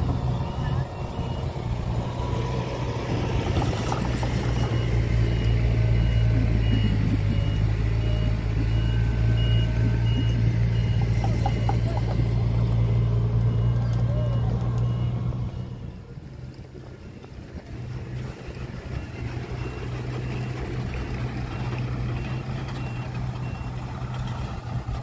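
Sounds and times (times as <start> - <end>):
heavy machinery engine drone: 0.0 - 25.0
reversing alarm beeping: 0.1 - 16.2, 18.2 - 24.4.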